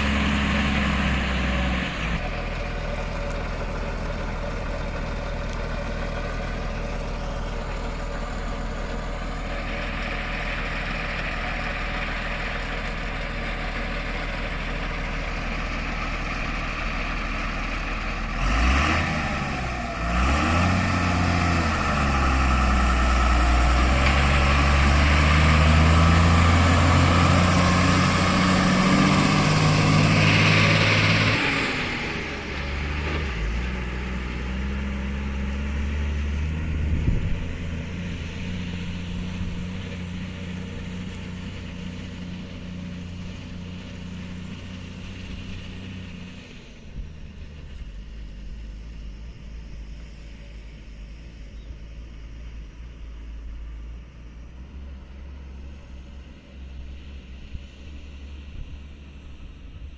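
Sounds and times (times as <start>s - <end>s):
diesel engine idling and revving: 0.0s - 59.9s.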